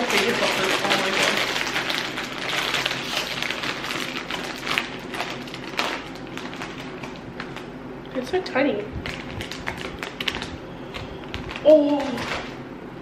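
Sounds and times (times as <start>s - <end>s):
snack packaging crinkling: 0.0s - 7.7s, 9.0s - 12.6s.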